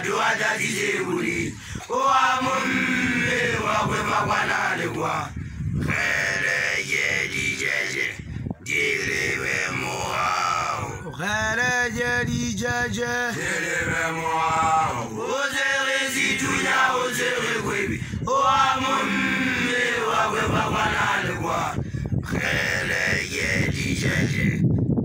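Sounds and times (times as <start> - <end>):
young man chanting: 0.0 - 24.7.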